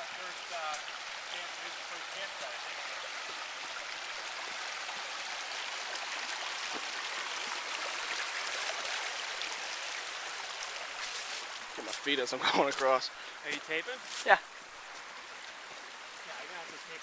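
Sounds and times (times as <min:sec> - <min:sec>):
small river running: 0:00.0 - 0:17.0.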